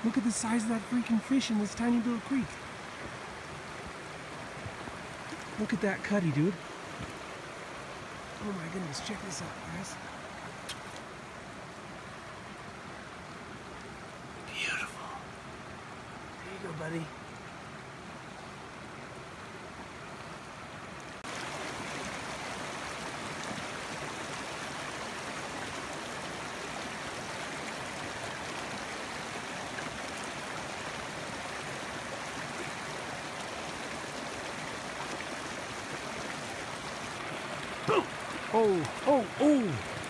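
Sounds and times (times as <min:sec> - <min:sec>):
creek running over rocks: 0:00.0 - 0:40.0.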